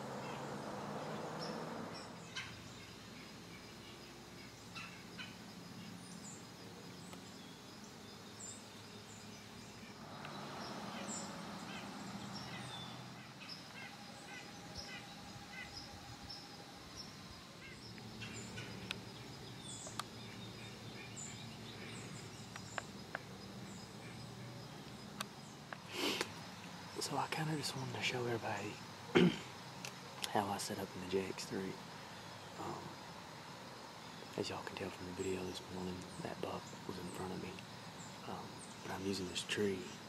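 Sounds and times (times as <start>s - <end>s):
bird calls and chirps: 0.0s - 40.0s.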